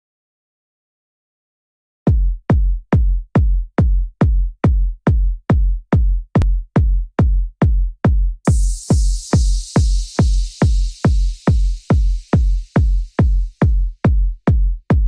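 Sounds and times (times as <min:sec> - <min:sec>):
drum machine kick drum: 0:02.1 - 0:15.0.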